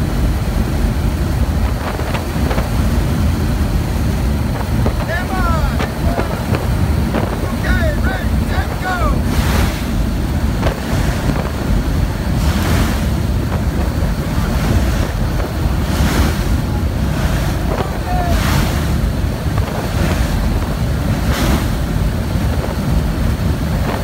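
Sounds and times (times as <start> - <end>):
aircraft engines droning: 0.0 - 24.0
wind buffeting microphone: 0.0 - 24.0
wind rushing through aircraft door: 1.0 - 24.0.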